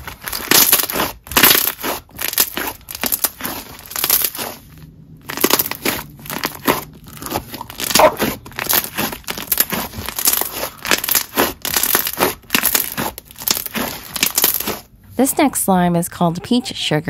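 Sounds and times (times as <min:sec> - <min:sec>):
slime squished by hand: 0:00.0 - 0:14.9.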